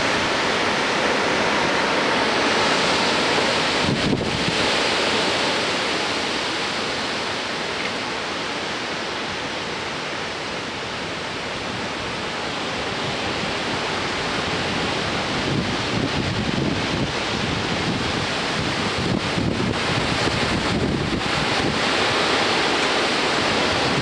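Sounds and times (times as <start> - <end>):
strong wind rushing: 0.0 - 24.0
wind gusts buffeting microphone: 0.0 - 24.0.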